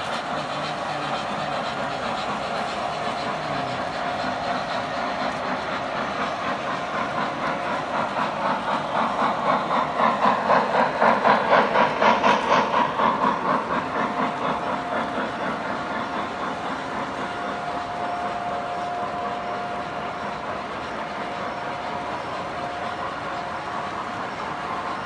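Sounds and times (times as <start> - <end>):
model steam locomotive chuffing: 0.0 - 25.0
train rail clatter: 0.0 - 25.0.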